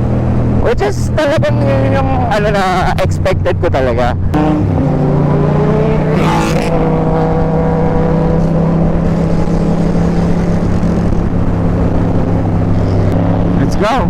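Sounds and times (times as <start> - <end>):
motorcycle engine cruising: 0.0 - 14.0
rushing wind: 0.0 - 14.0.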